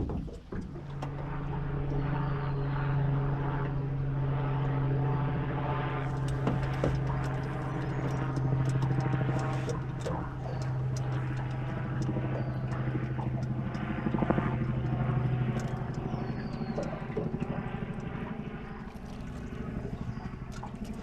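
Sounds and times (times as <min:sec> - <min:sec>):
motor droning: 0:00.0 - 0:21.0.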